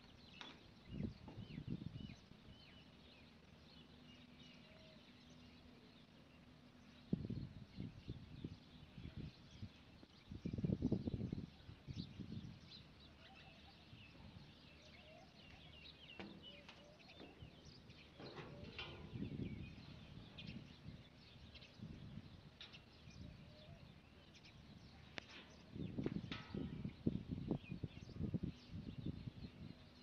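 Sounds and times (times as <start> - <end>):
small birds chirping faintly: 0.0 - 30.0.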